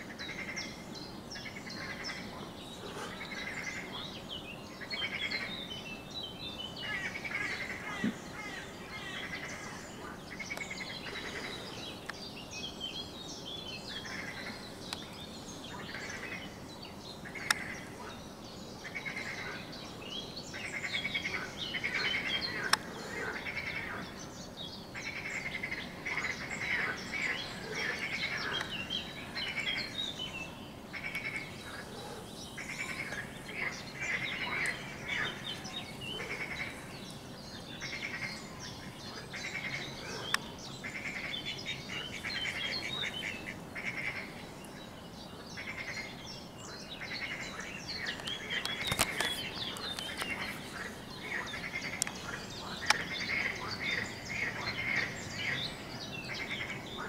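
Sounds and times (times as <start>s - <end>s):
birds chirping: 0.0s - 57.0s
frogs croaking: 0.0s - 57.0s.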